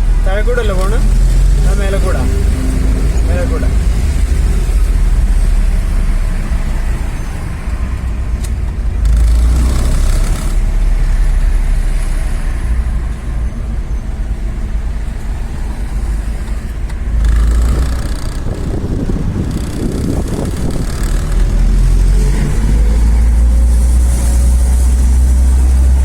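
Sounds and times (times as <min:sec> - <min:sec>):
road and engine rumble: 0:00.0 - 0:26.0.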